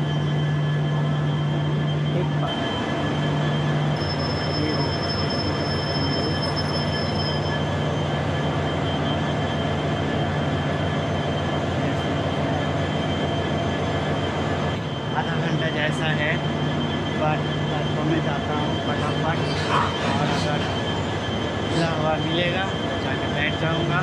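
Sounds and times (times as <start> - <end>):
faint steady tones: 0.0 - 24.0
thin high whine: 0.0 - 24.0
train engine hum: 0.0 - 24.0.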